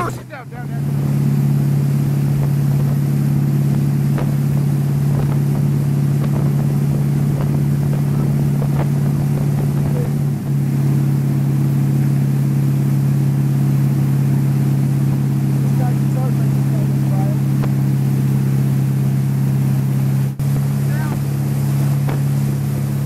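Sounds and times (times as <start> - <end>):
boat engine running steadily: 0.0 - 23.0.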